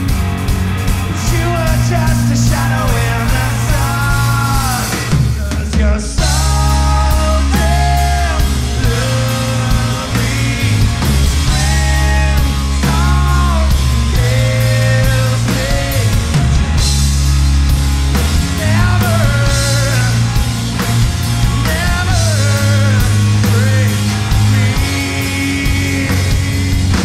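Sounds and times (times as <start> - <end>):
rock band playing: 0.0 - 27.0
person singing: 1.1 - 16.6, 18.4 - 27.0.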